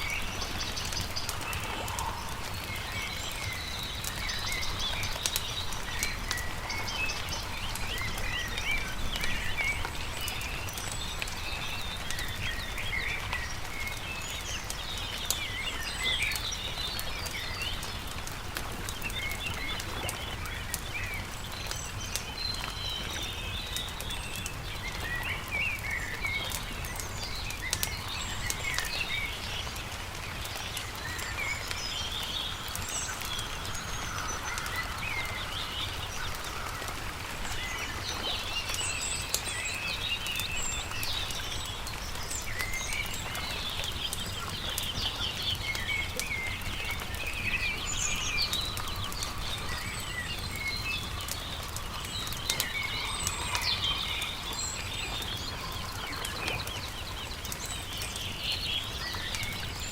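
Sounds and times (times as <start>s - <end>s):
campfire crackling and popping: 0.0s - 59.9s
songbirds chirping and trilling: 0.0s - 59.9s.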